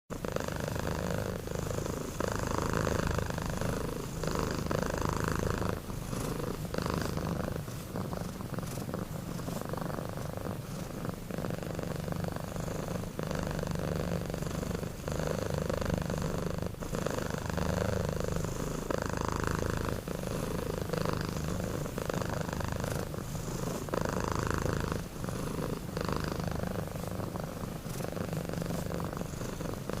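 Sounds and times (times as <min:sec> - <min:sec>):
kittens snoring: 0:00.1 - 0:30.0.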